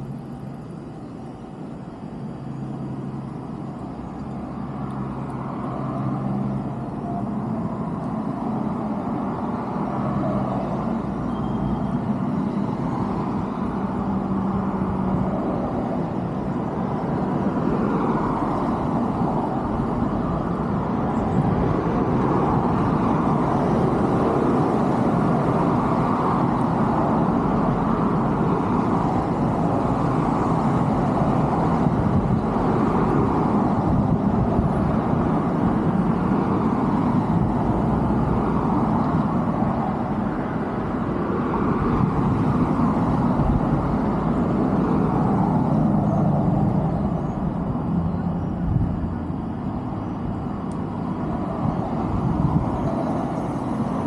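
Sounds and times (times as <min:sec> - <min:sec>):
distant road traffic: 0:00.0 - 0:54.0.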